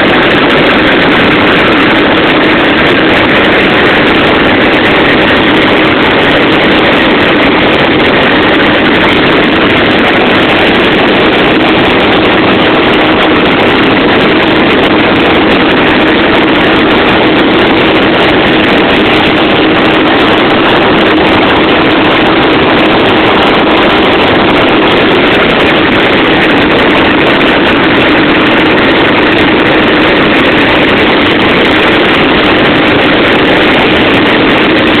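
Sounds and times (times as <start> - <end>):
helicopter engine and rotor drone: 0.0 - 35.0.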